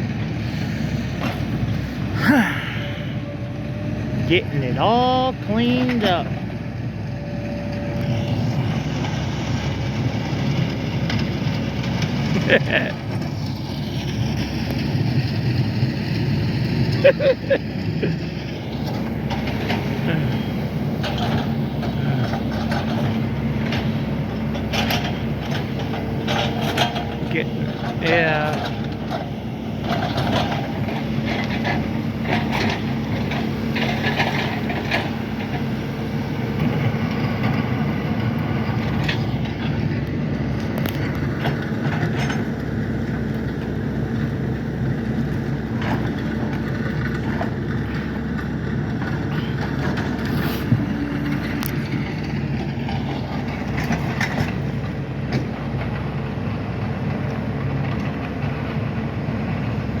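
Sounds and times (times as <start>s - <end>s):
large engine running: 0.0s - 60.0s.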